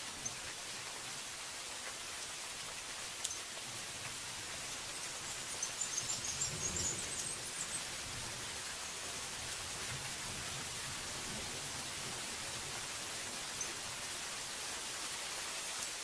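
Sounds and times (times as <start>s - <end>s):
heavy rain on foliage: 0.0s - 16.0s.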